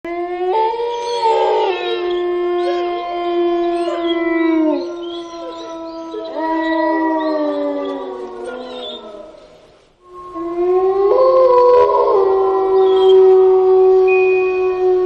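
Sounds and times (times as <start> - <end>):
wolves howling: 0.1 - 15.0.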